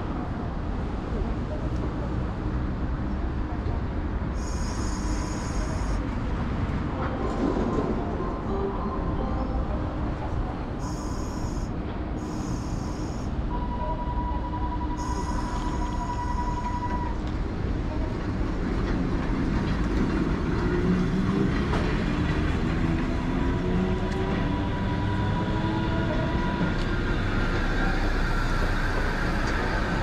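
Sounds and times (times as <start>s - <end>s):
tram wheels rumbling on rails: 0.0s - 30.0s
tram motor whine: 4.3s - 30.0s.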